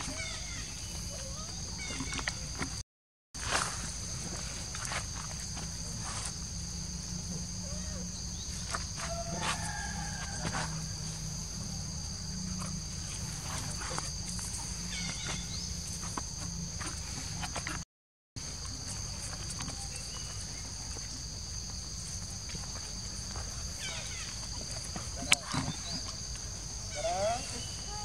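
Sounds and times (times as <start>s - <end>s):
insects droning: 0.0s - 2.8s, 3.4s - 17.8s, 18.4s - 28.0s.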